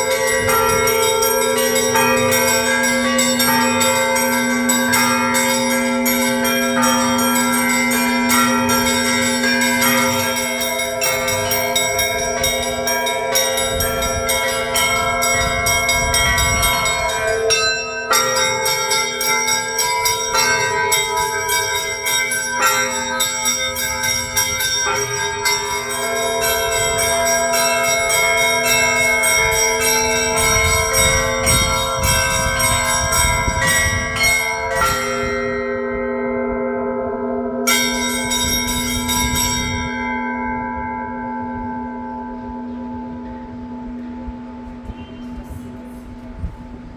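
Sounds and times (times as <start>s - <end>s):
small bells ringing rapidly: 0.0s - 35.8s, 37.7s - 40.2s
deep bell ringing: 0.0s - 46.5s.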